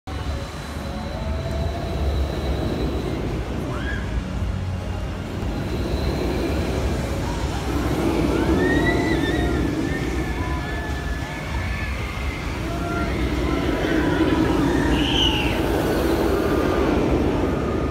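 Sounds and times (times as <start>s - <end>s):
roller coaster rumbling on track: 0.1s - 17.9s.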